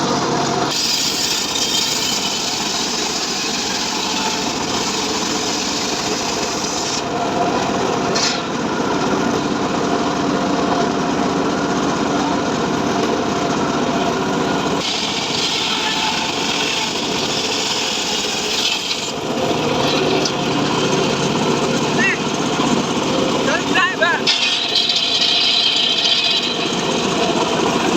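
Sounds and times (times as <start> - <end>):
engine-driven saw cutting wood: 0.1 - 27.9.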